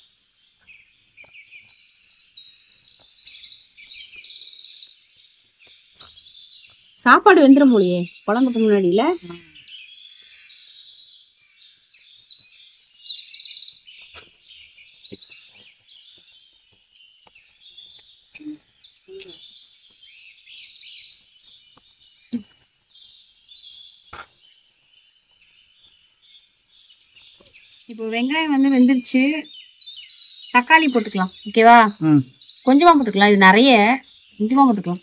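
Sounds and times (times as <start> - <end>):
small birds chirping and twittering: 0.0 - 35.0.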